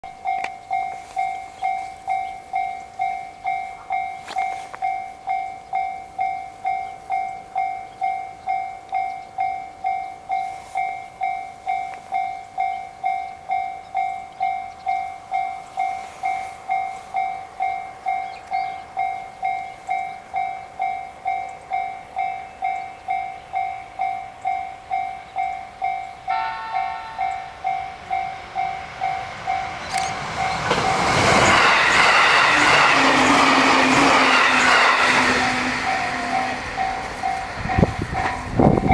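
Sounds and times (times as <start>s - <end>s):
level crossing warning bell: 0.0s - 38.9s.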